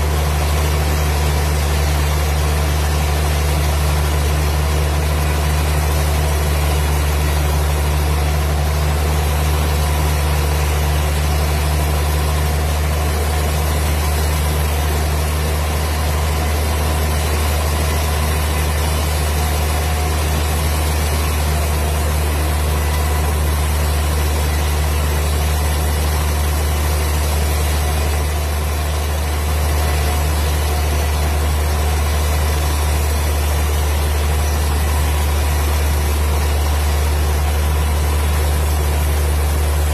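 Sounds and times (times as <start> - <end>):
wood-cutting machine humming: 0.0 - 39.9.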